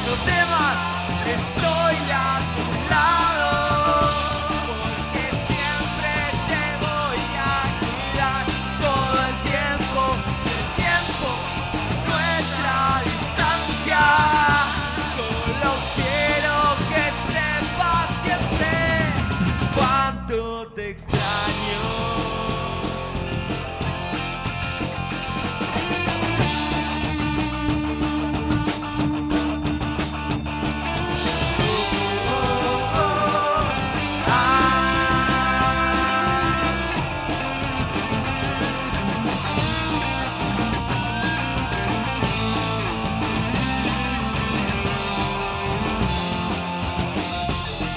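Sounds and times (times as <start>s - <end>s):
drum kit: 0.0s - 20.2s, 21.0s - 47.9s
electric guitar: 0.0s - 20.2s, 21.1s - 47.9s
punk rock band playing live: 0.0s - 20.2s, 21.0s - 47.9s
lead vocals singing: 0.0s - 23.8s, 30.9s - 46.4s
electric bass: 0.0s - 47.9s.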